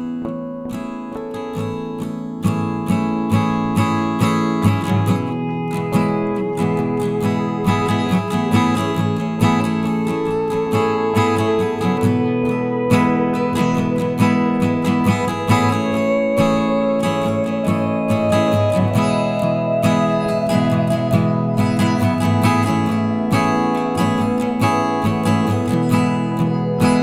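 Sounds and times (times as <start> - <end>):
strummed acoustic guitar: 0.0 - 27.0.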